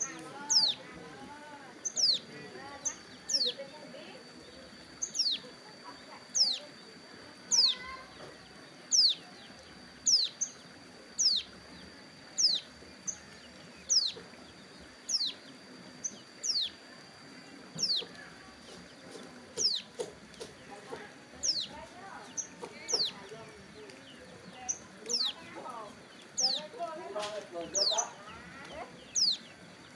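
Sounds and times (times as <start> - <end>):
steady high whine: 0.0 - 29.9.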